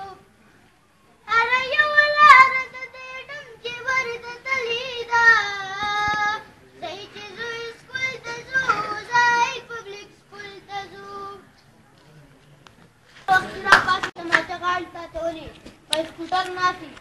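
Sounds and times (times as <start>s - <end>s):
boy singing: 0.0s - 0.2s, 1.2s - 11.5s, 13.3s - 17.0s.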